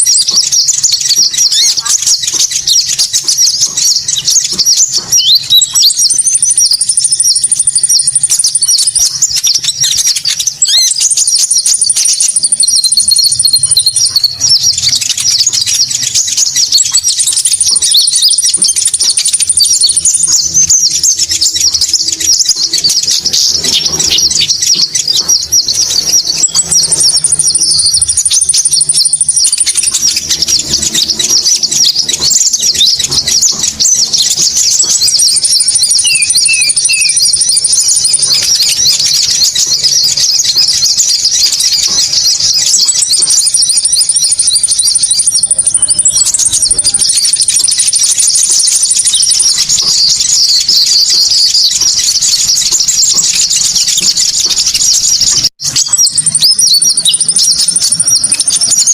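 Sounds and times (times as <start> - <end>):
bird lure chirps: 0.0 - 58.9.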